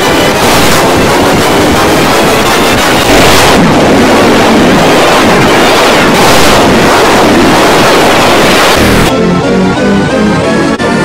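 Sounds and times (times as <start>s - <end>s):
harsh distorted noise: 0.0s - 11.0s.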